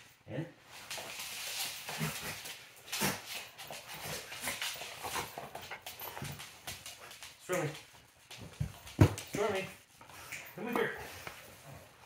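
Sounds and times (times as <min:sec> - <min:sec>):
dog sliding on laminate floor: 0:00.6 - 0:12.0.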